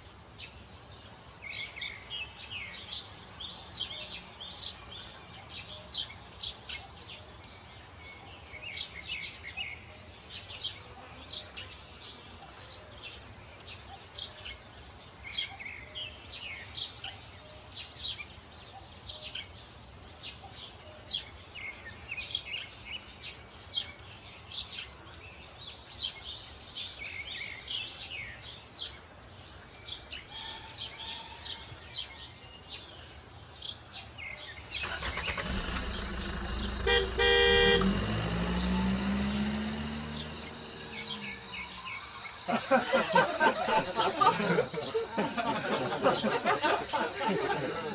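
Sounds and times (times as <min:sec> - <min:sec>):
birds chirping and singing: 0:00.4 - 0:47.9.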